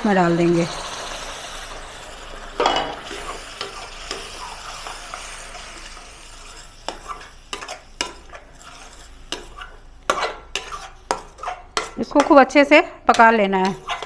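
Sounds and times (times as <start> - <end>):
puree sizzling in hot fat: 0.0 - 14.0
spoon scraping a pan: 2.6 - 14.0.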